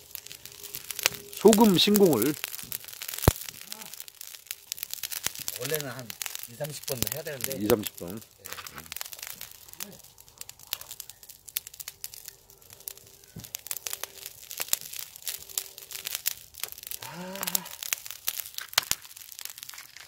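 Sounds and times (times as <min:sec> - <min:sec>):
faint hiss: 0:00.0 - 0:19.3
wood fire crackling and popping: 0:00.0 - 0:20.0.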